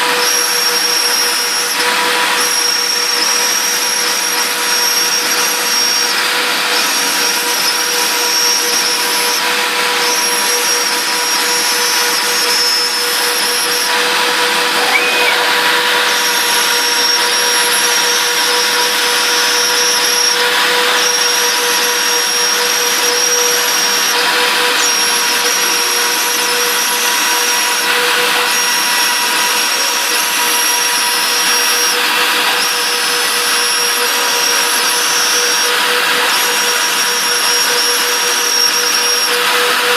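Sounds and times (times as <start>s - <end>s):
router milling plywood whine: 0.0s - 39.9s.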